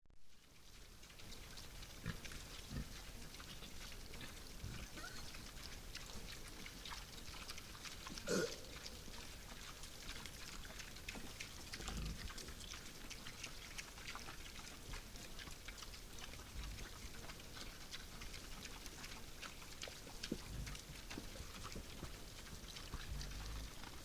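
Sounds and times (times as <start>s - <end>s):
small clicks and crackles: 0.2s - 24.0s.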